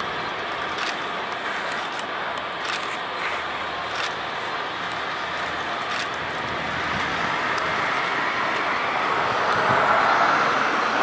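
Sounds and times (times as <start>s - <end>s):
jet engines rushing with whine: 0.0s - 11.0s.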